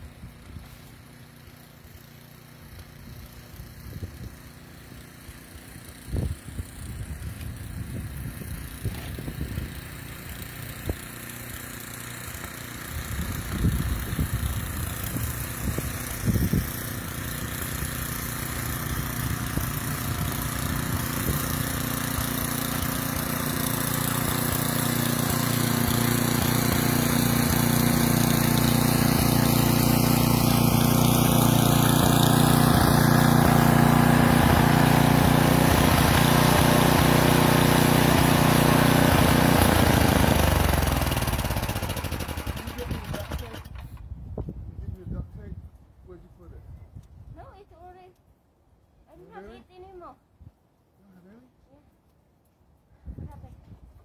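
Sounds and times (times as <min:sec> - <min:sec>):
snowblower engine running: 0:00.0 - 0:44.1.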